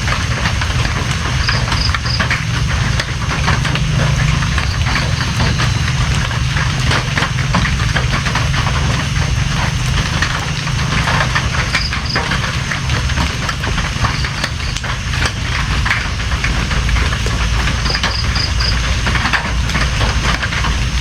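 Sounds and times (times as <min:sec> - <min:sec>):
deep rumble: 0:00.0 - 0:21.0
raindrops tapping: 0:00.0 - 0:21.0.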